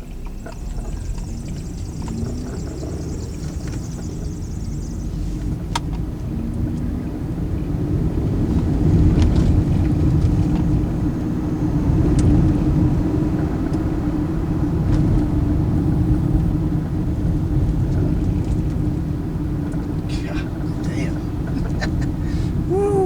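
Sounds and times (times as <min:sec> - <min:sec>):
car engine running: 0:00.0 - 0:23.0
road noise inside car: 0:00.0 - 0:23.0.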